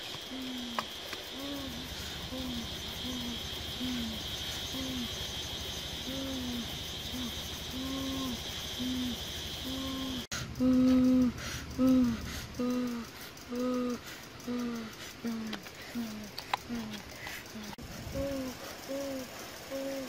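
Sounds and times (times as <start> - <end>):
high-pitched insect drone: 0.0 - 20.0
low hooting call: 0.1 - 20.0.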